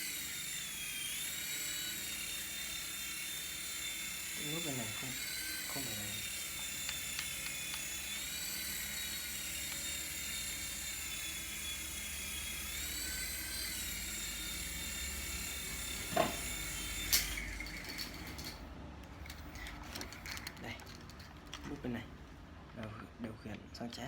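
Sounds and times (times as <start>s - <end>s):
toy helicopter motors whining: 0.0s - 22.0s.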